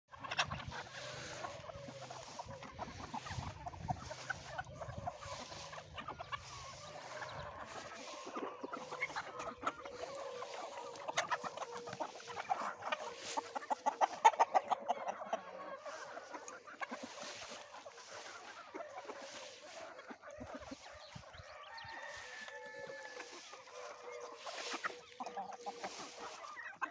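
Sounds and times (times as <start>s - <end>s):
flock of chickens clucking: 0.0s - 26.9s.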